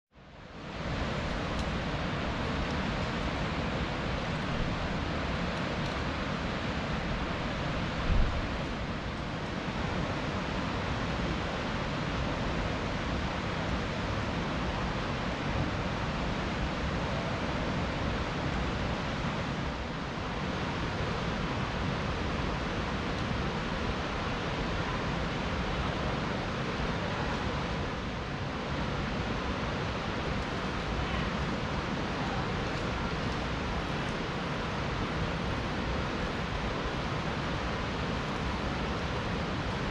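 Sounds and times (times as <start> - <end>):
water rushing through gorge: 0.3 - 39.9.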